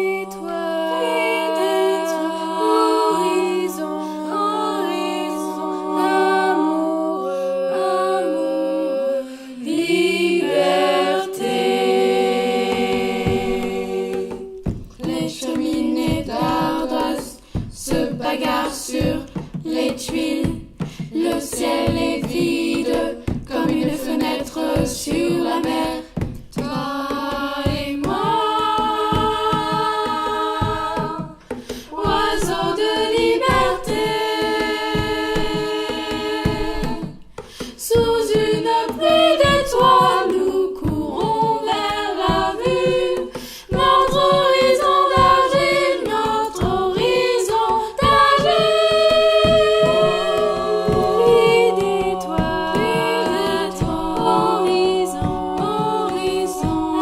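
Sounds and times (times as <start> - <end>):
voices singing a cappella: 0.0 - 57.0
percussive beat: 9.7 - 57.0.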